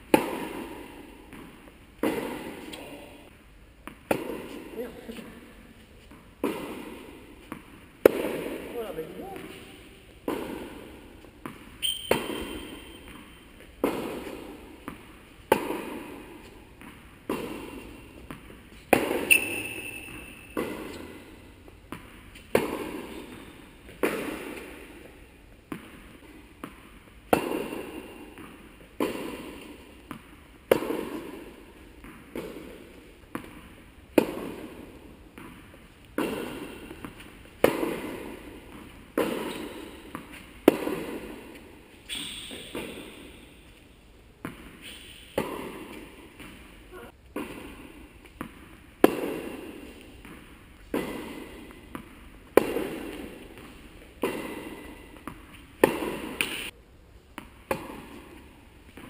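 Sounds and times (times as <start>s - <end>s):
tennis ball struck by rackets: 0.0s - 3.0s, 3.8s - 5.2s, 6.0s - 43.8s, 44.4s - 59.0s
tennis ball bouncing on court: 0.0s - 59.0s.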